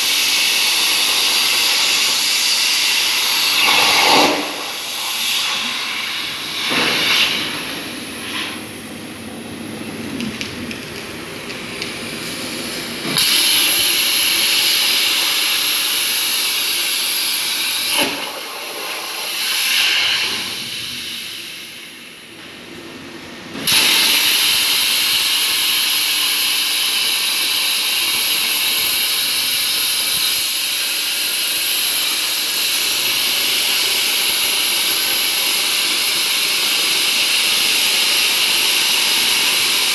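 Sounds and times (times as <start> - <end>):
plasma torch cutting metal: 0.0 - 8.8, 11.6 - 22.0, 23.6 - 39.9.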